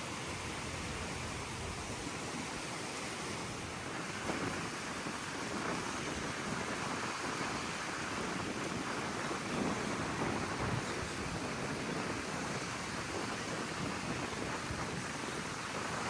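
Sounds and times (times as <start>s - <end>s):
surf rushing: 0.0s - 16.0s
wind: 0.0s - 16.0s.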